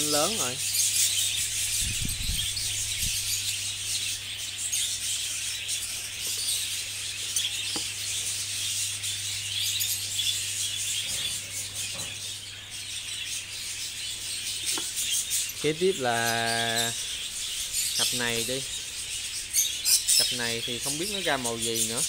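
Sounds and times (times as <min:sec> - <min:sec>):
steady low hum: 0:00.0 - 0:21.3
budgerigars chattering and chirping: 0:00.0 - 0:22.0.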